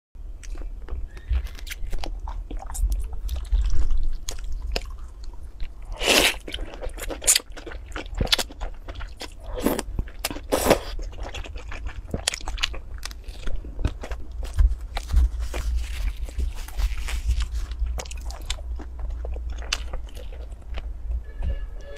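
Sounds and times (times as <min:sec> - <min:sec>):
crunchy chewing: 0:00.3 - 0:21.2.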